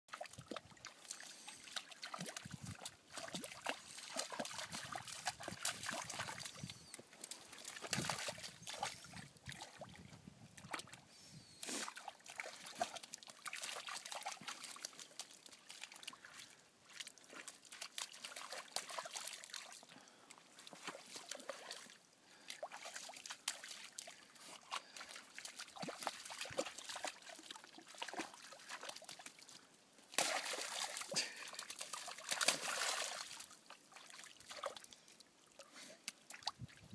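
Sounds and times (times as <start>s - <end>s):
paws splashing through puddles: 0.1s - 9.9s, 11.6s - 36.8s.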